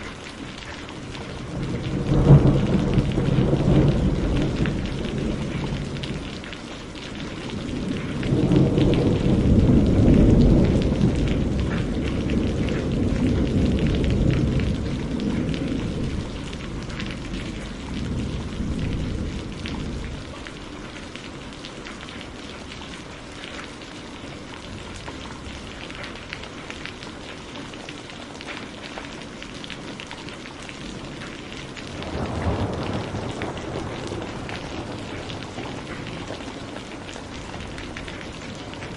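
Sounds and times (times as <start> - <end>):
rain pattering: 0.0 - 38.9
thunder rumbling: 0.2 - 23.4, 30.6 - 38.9.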